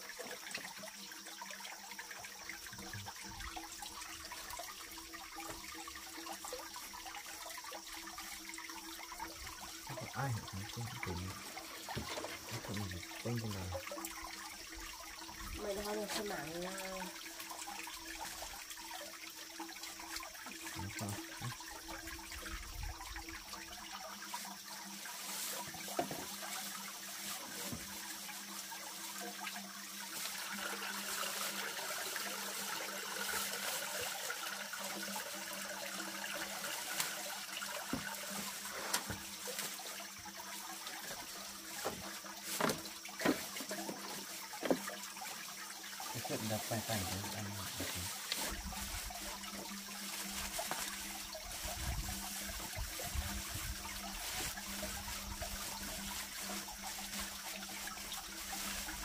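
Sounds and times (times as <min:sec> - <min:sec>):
water running and trickling: 0:00.0 - 0:59.0.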